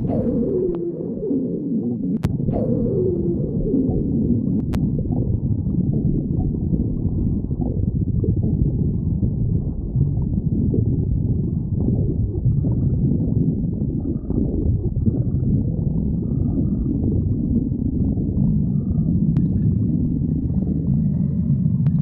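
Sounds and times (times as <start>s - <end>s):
stomach growling: 0.0s - 22.0s.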